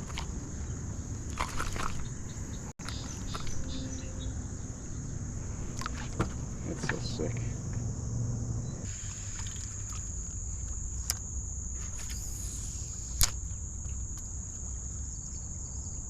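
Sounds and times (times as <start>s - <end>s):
low rumble: 0.0s - 14.5s.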